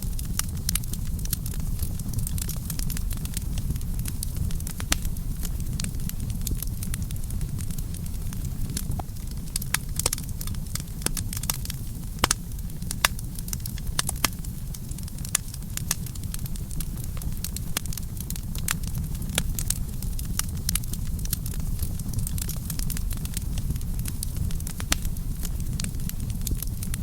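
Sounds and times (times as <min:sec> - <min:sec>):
campfire burning: 0:00.0 - 0:27.0
wood crackling and popping: 0:00.0 - 0:27.0.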